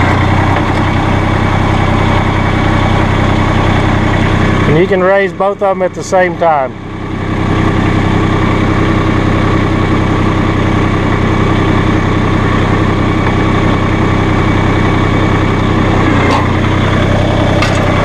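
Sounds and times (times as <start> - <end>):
diesel engine under hydraulic load: 0.0 - 18.0.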